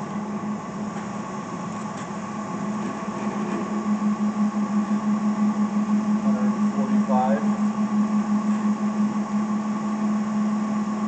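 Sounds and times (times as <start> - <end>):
band saw motor hum: 0.0 - 11.0.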